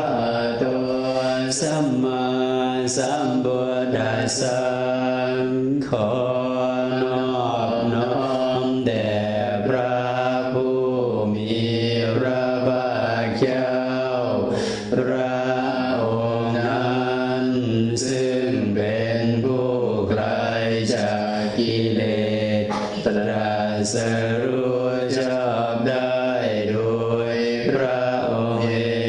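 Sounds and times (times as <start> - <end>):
man chanting in low voice: 0.0 - 29.0.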